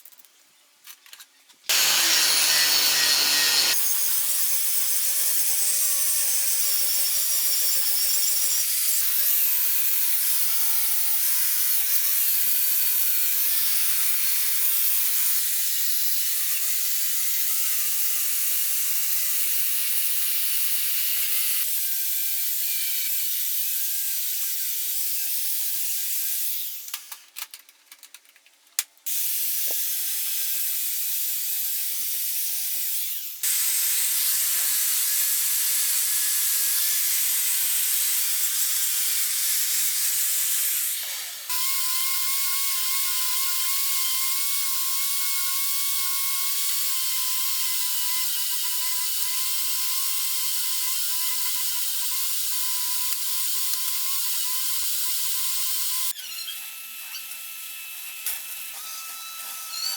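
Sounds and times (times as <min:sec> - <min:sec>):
power tool grinding metal: 0:01.7 - 0:26.7, 0:29.2 - 0:59.9.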